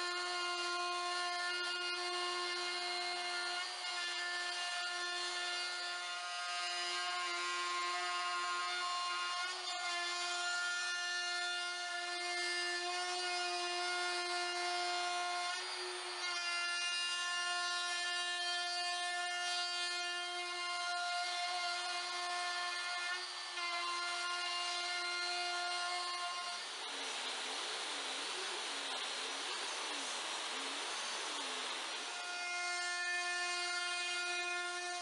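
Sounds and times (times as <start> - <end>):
router bit cutting wood: 0.0 - 35.0
router whining: 0.0 - 35.0.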